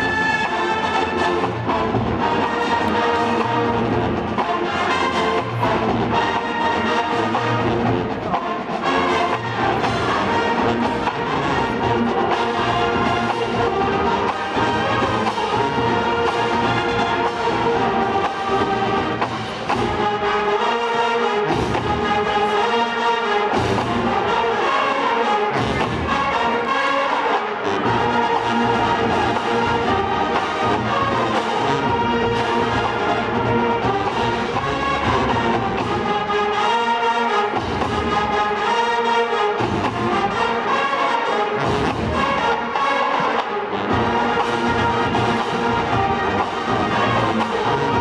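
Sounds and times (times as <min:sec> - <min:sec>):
marching band playing: 0:00.0 - 0:48.0.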